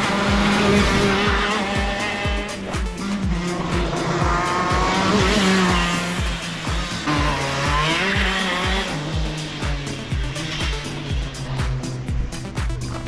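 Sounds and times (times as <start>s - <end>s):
electronic music with kick drum: 0.0s - 13.0s
go-kart engine revving: 0.0s - 13.0s.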